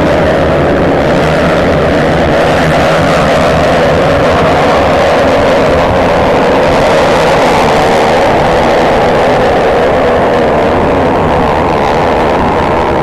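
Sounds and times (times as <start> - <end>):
motorcycle engines at high revs: 0.0 - 13.0.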